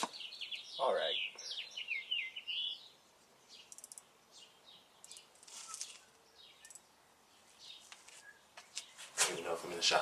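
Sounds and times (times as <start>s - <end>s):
faint bird chirps: 0.0s - 9.6s.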